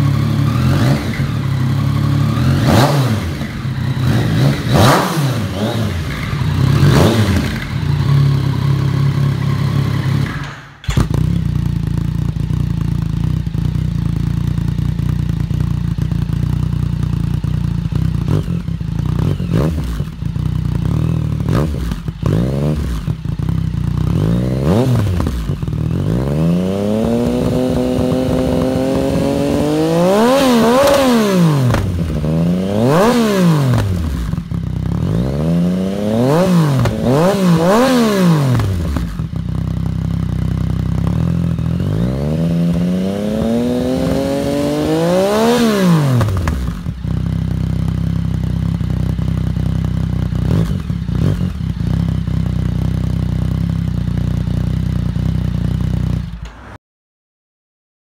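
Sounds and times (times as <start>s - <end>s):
motorcycle engine revving: 0.0s - 56.8s.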